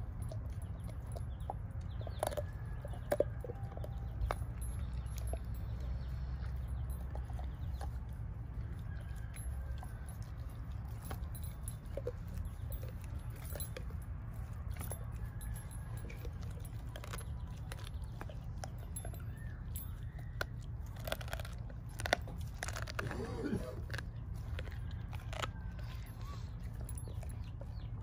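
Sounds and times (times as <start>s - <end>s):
chain collar jangling: 0.0s - 28.0s
dog chewing on carcass: 0.0s - 28.0s
steady low rumble: 0.0s - 28.0s.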